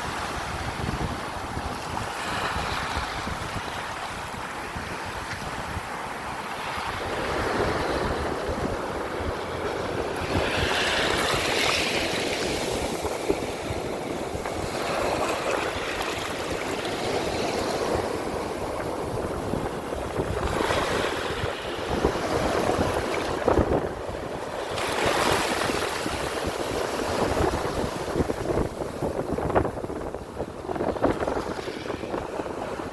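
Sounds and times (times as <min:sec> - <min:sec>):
ocean surf washing in: 0:00.0 - 0:32.9
wind gusting across microphone: 0:00.0 - 0:32.9.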